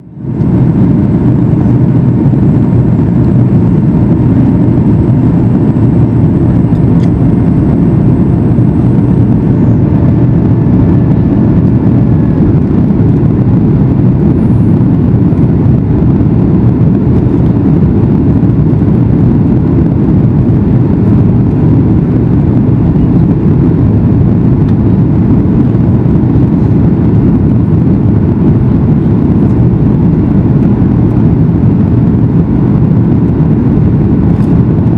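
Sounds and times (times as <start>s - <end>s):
airliner cabin engine rumble: 0.0s - 34.9s.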